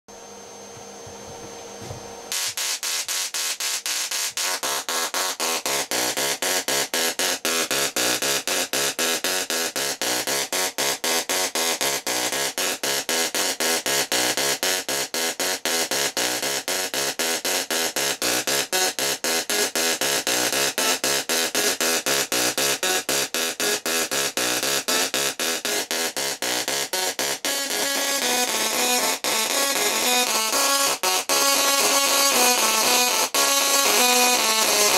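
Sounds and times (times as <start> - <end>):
tesla coil buzzing a tune: 0.2 - 34.9.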